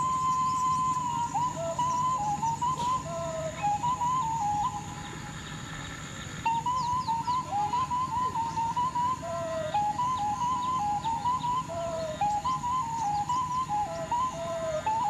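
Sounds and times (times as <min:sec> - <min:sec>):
flute-like melody: 0:00.0 - 0:15.0.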